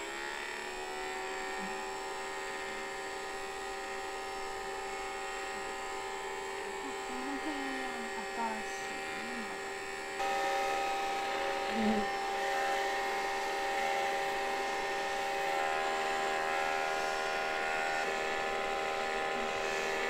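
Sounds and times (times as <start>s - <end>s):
electric blower motor whining: 0.0s - 20.0s.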